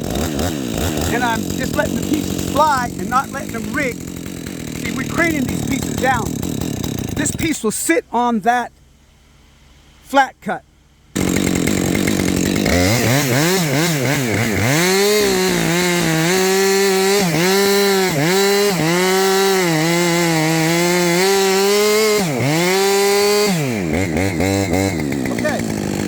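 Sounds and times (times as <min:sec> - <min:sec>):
chainsaw cutting wood: 0:00.0 - 0:07.6, 0:11.1 - 0:26.0.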